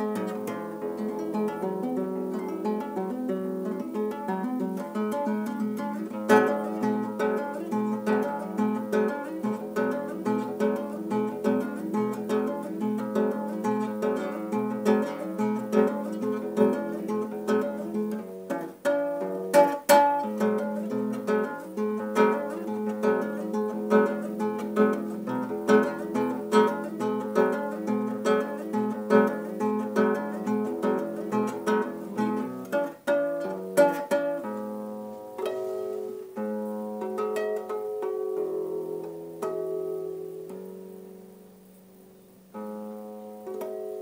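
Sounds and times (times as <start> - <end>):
struck guitar chords: 0.0 - 41.8
fingerstyle acoustic guitar: 0.0 - 44.0.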